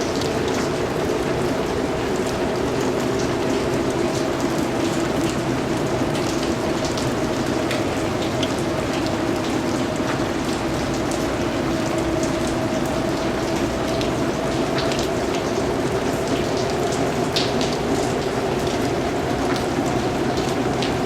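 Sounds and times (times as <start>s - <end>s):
rain drops ticking: 0.0s - 21.0s.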